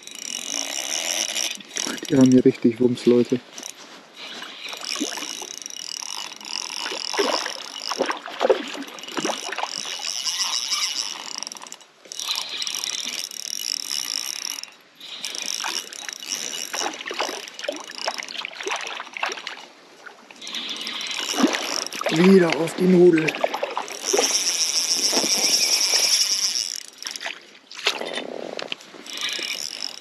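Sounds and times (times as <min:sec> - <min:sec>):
fishing reel whirring and clicking: 0:00.0 - 0:19.7, 0:20.3 - 0:30.0.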